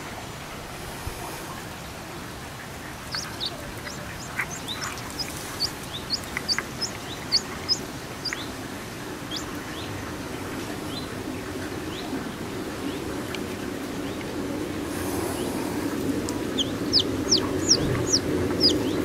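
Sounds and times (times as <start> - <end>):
chicks peeping: 2.6 - 19.0.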